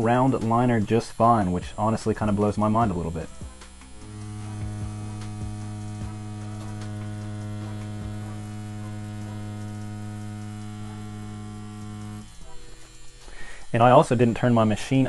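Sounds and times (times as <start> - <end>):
tattoo machine humming: 0.0 - 15.0.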